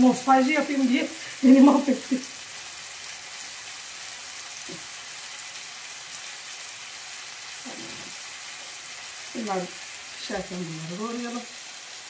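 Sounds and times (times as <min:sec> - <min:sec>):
chicken and onions sizzling in pan: 0:00.0 - 0:12.0.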